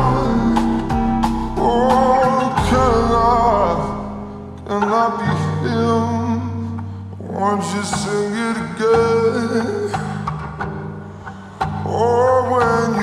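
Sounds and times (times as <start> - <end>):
man singing: 0.0 - 10.6, 11.7 - 13.0
guitar and bass: 0.0 - 13.0.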